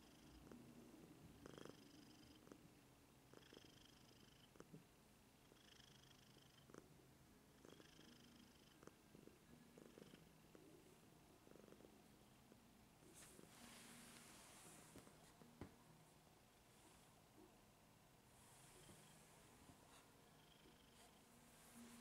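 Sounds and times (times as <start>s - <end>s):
cat purring: 0.0s - 15.8s, 18.3s - 22.0s.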